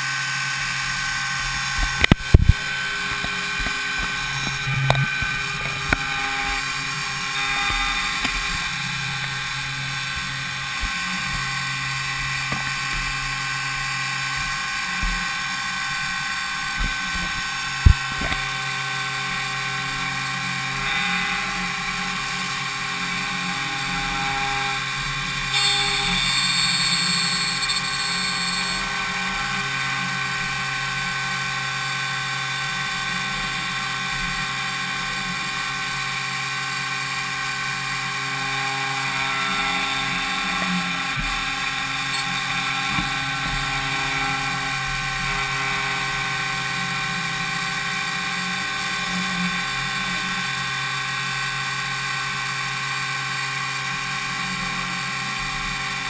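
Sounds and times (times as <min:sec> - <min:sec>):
milling machine spindle whine: 0:00.0 - 0:56.0.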